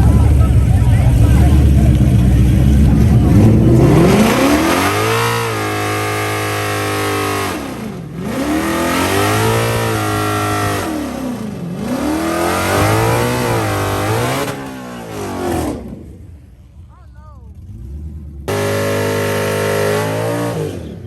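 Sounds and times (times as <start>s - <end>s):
race car engine revving: 0.0s - 16.9s, 17.5s - 21.0s.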